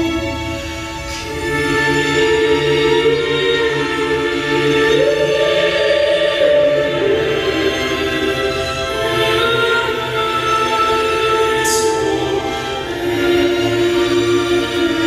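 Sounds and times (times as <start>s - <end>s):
slow choral singing: 0.0s - 15.0s.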